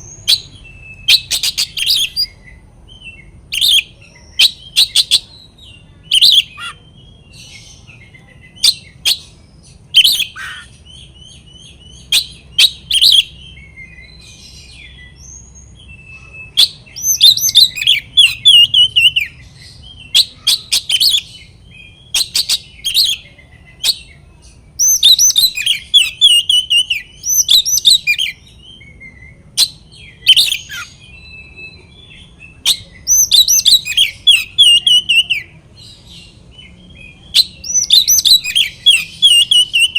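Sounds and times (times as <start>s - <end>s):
magpie-robin singing: 0.0s - 39.9s
sharp bird calls: 0.0s - 39.9s.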